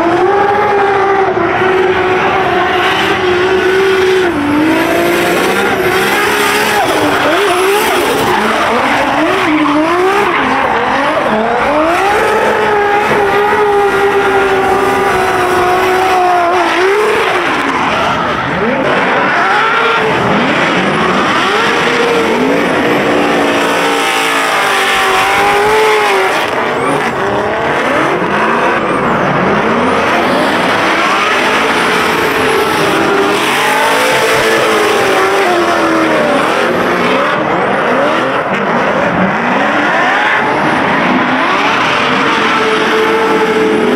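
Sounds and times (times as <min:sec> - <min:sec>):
high-revving car engines: 0:00.0 - 0:43.9.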